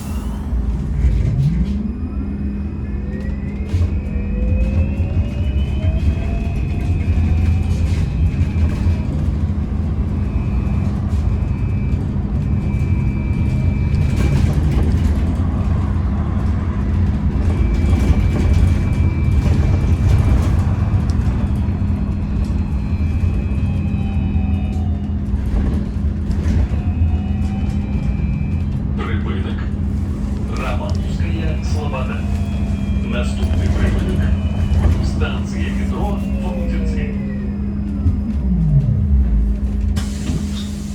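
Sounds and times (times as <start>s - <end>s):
vehicle low rumble: 0.0s - 40.9s.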